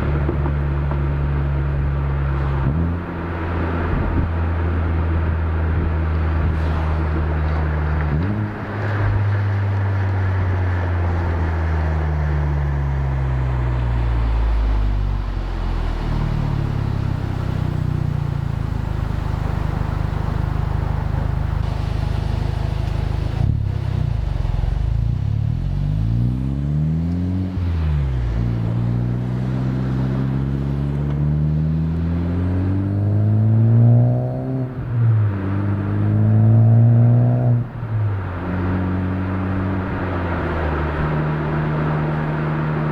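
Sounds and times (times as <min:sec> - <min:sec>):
car exhaust revving: 0:00.0 - 0:42.9.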